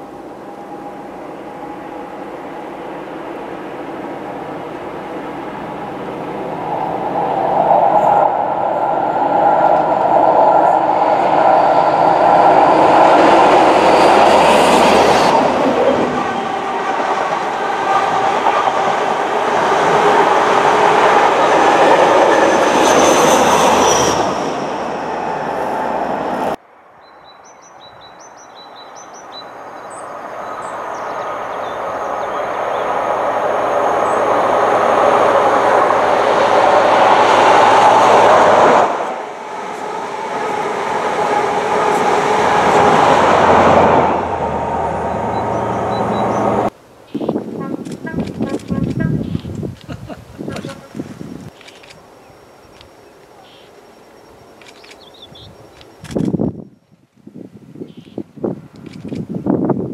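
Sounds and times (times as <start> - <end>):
diesel train engine: 0.0 - 26.6, 29.6 - 46.8, 47.5 - 56.4.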